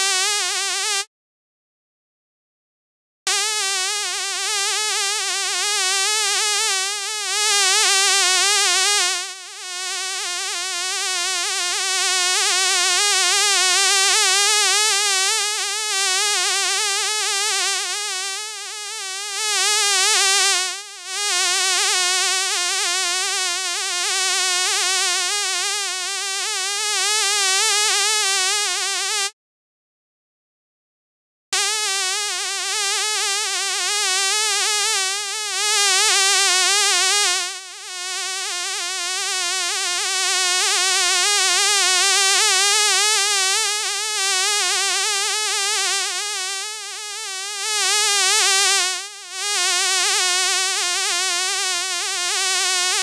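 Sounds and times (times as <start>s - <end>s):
fly buzzing: 0.0s - 1.0s, 3.3s - 12.8s, 13.4s - 29.3s, 31.6s - 53.0s.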